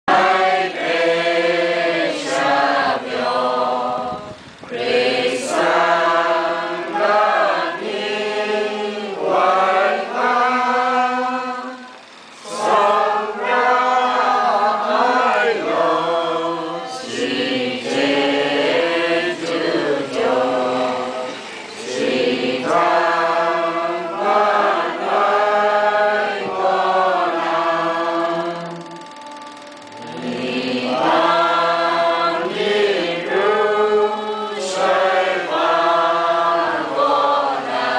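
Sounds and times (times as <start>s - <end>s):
group singing a hymn: 0.0s - 37.9s.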